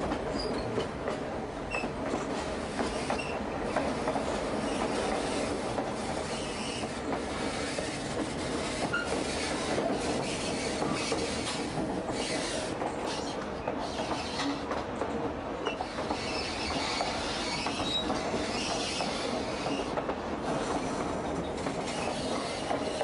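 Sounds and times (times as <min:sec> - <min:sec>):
train wheels rattling over rails: 0:00.0 - 0:23.0.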